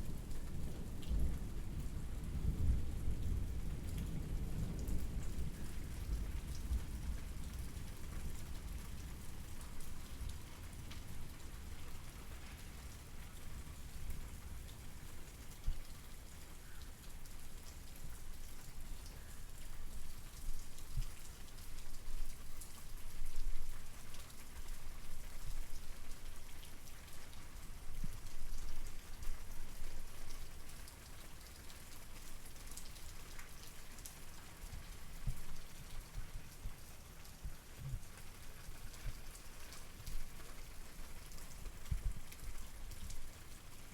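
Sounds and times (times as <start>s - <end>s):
rain drops pattering: 0.0s - 43.9s.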